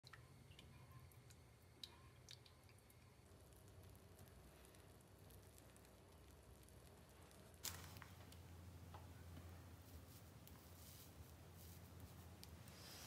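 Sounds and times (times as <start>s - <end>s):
faint low room hum: 0.0s - 13.0s.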